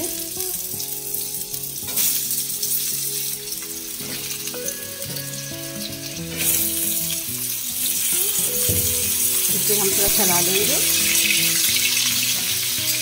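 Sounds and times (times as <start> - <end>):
potato chunks sizzling in hot oil: 0.0 - 13.0.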